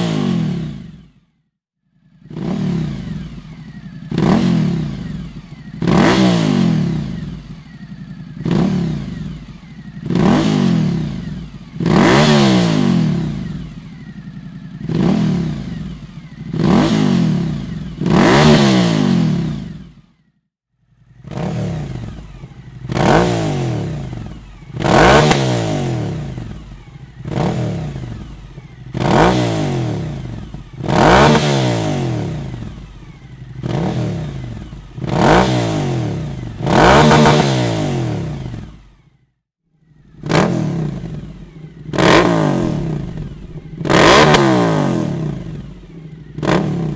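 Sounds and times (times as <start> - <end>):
motorcycle engine revving: 0.0 - 1.3, 2.0 - 20.3, 20.9 - 46.9.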